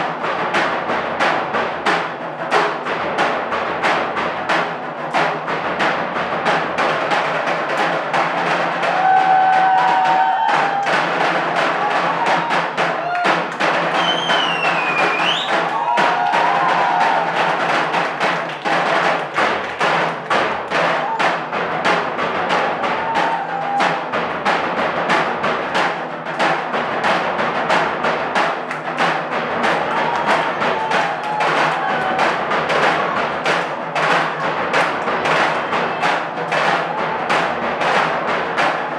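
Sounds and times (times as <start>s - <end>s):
drum ensemble playing fast beat: 0.0s - 38.9s.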